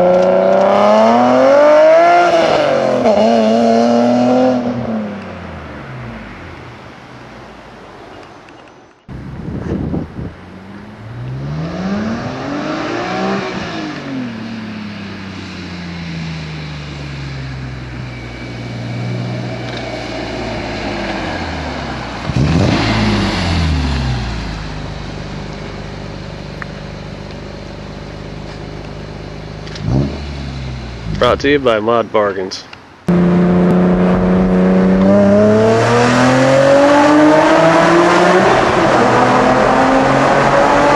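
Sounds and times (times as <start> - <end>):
car engine revving and idling: 0.0 - 7.9, 9.2 - 31.8, 33.0 - 40.9.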